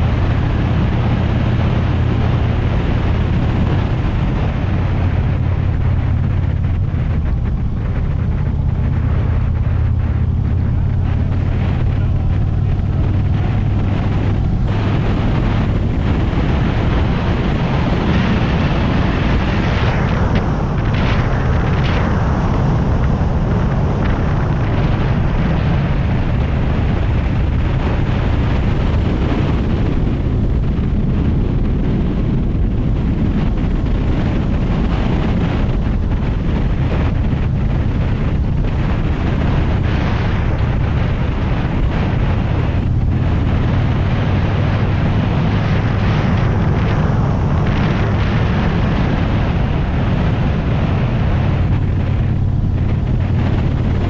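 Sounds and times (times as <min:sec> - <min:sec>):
motorcycle cruising: 0:00.0 - 0:54.0
wind on microphone: 0:00.0 - 0:54.0.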